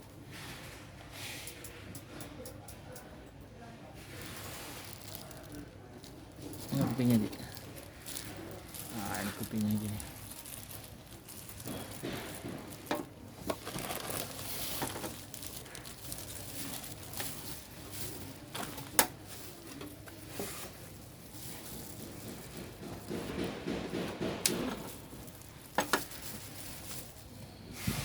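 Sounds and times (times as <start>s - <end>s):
plastic rustling and crinkling: 4.0s - 23.7s, 24.4s - 28.0s.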